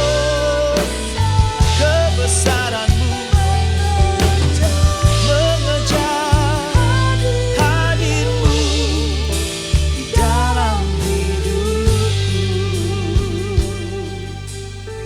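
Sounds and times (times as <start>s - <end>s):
drum hits: 0.0s - 14.0s
person singing with vibrato: 0.0s - 15.0s
worship band playing slow song: 0.0s - 15.0s.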